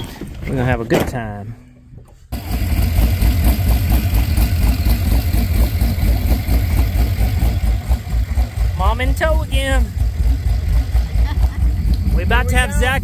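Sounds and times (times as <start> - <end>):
boat engine idling: 2.3 - 13.0.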